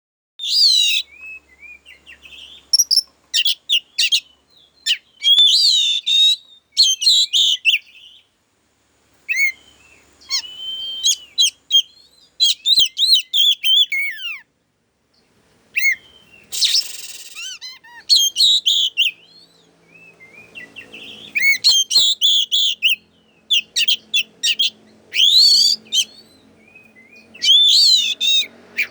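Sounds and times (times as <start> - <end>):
bird singing whistles and chirps: 0.4 - 8.3, 9.2 - 14.5, 15.2 - 28.9.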